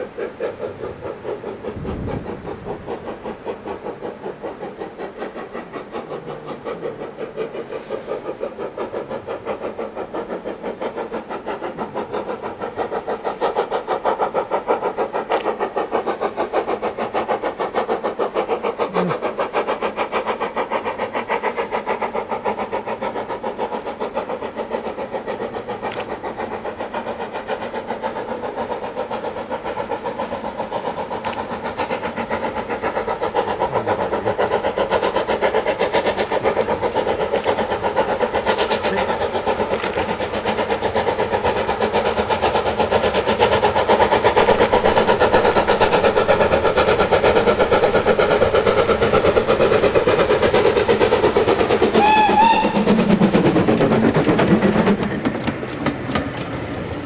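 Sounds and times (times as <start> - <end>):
steam locomotive exhaust beating: 0.0 - 57.0.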